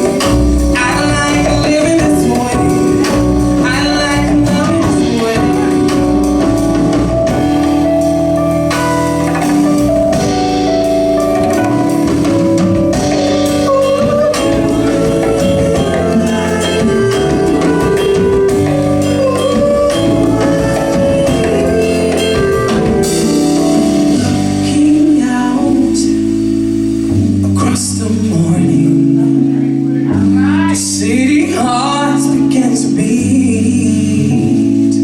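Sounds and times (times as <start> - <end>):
band playing pop ballad: 0.0 - 35.0
keyboard chords: 0.0 - 35.0.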